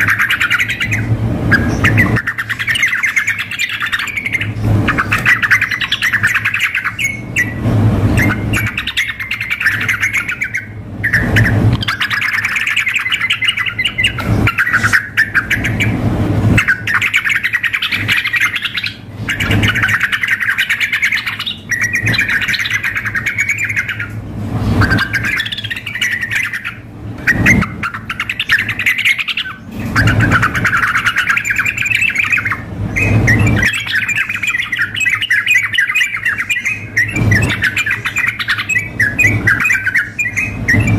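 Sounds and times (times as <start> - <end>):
bird calls: 0.0 - 40.9
birds singing chattering phrases: 0.0 - 40.9.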